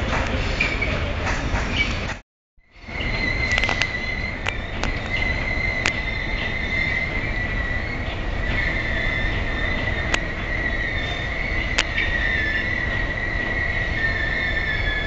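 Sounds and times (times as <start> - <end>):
diesel locomotive rumble: 0.0 - 15.0
wheels squealing on rails: 0.0 - 15.0.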